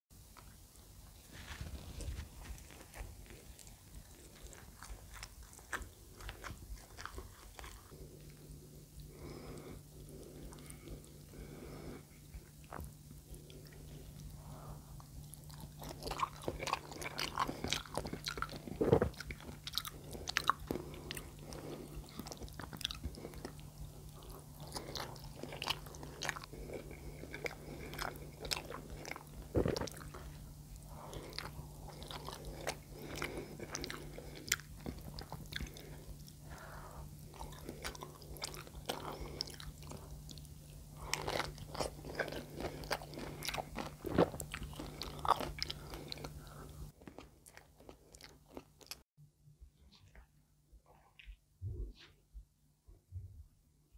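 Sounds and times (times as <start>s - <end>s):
steady low hum: 0.1s - 53.9s
close chewing and biting: 1.3s - 49.0s.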